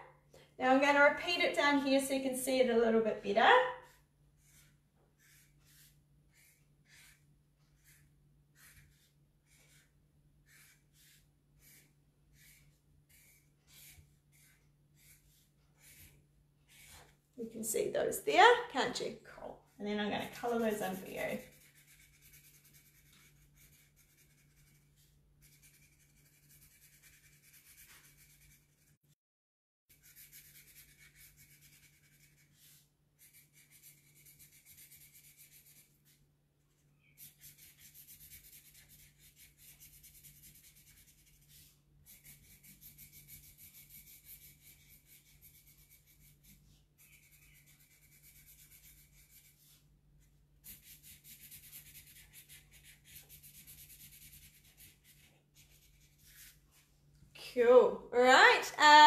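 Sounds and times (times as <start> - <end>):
marker scratching on paper: 3.7 - 17.2, 19.9 - 29.0, 29.9 - 36.2, 37.1 - 56.8.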